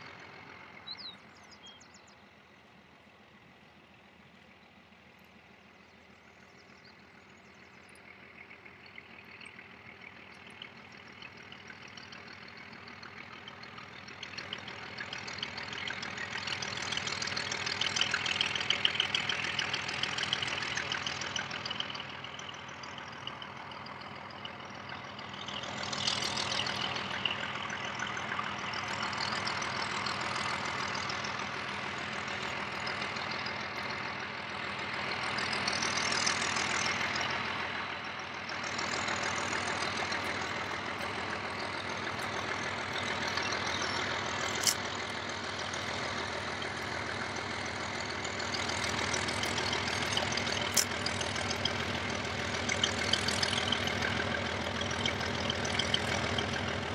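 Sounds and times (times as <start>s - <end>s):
diesel locomotive engine running: 0.0s - 56.9s.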